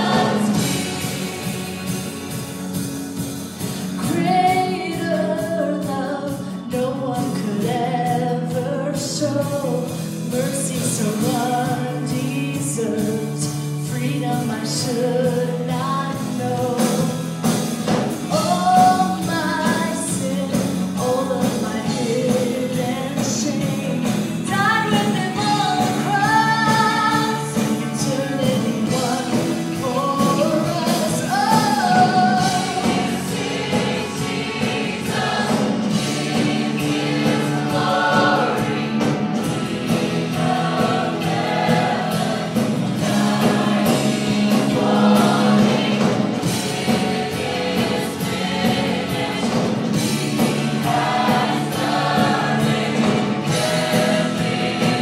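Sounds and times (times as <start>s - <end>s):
instrumental backing: 0.0s - 8.6s, 9.4s - 55.0s
choir singing gospel song: 0.0s - 55.0s.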